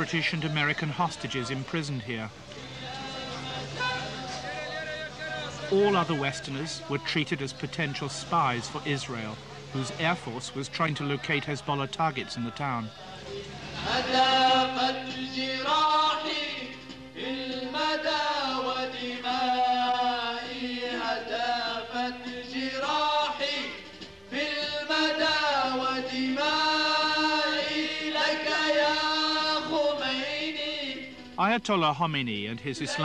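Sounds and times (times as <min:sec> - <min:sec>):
men chanting into microphones: 0:00.0 - 0:31.6, 0:32.7 - 0:33.0.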